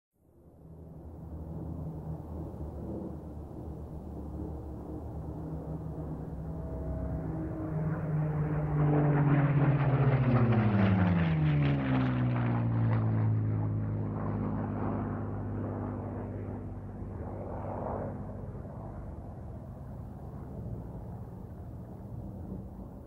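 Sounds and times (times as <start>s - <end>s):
engine passing by: 1.4s - 22.9s.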